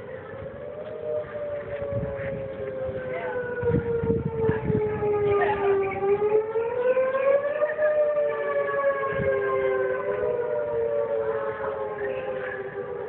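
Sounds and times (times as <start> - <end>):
warning sirens wailing: 0.0 - 13.0.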